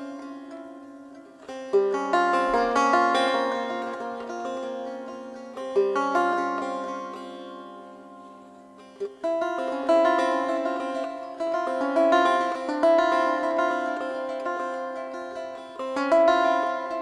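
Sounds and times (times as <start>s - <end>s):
plucked lute folk music: 0.0s - 17.0s.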